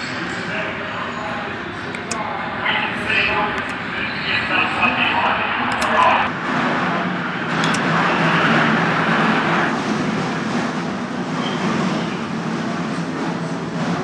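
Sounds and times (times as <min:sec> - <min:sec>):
arena crowd din: 0:00.0 - 0:14.0.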